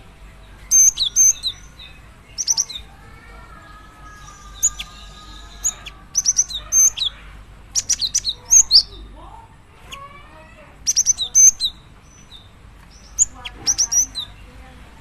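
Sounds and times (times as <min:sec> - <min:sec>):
bird chirping: 0:00.0 - 0:09.1, 0:10.8 - 0:14.8.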